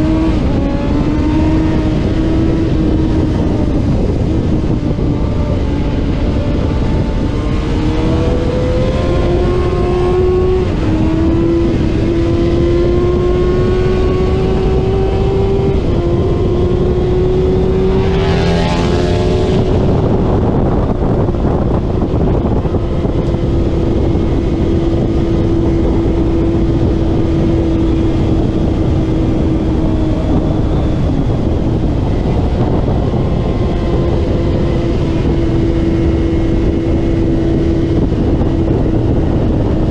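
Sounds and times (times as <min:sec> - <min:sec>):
motorcycle engine at high revs: 0:00.0 - 0:39.9
motorcycle passing close by: 0:00.0 - 0:39.9
rush of wind: 0:00.0 - 0:39.9.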